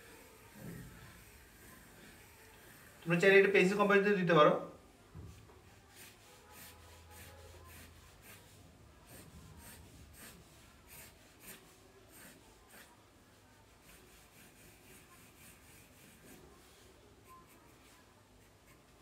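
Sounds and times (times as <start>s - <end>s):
pencil scratching on paper: 0.0s - 3.0s, 5.7s - 19.0s.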